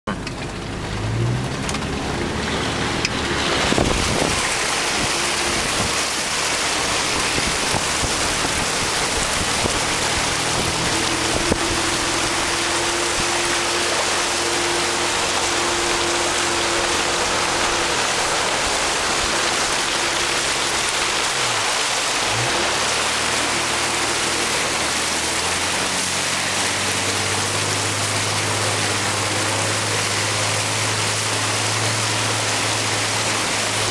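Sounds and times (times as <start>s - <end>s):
car engine running: 0.1s - 33.9s
water rushing and splashing: 0.1s - 33.9s.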